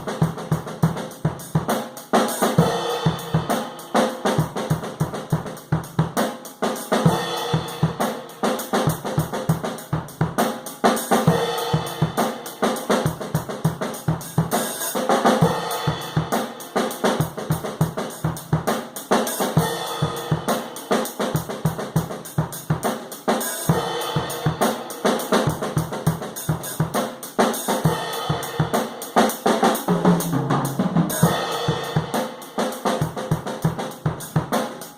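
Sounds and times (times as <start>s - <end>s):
acoustic drum kit groove: 0.0s - 34.9s.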